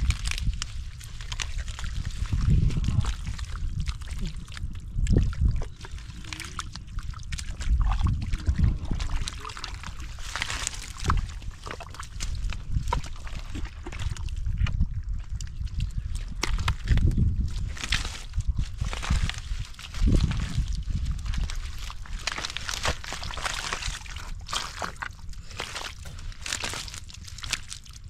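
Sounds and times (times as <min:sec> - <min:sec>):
hands sloshing through mud and water: 0:00.0 - 0:28.0.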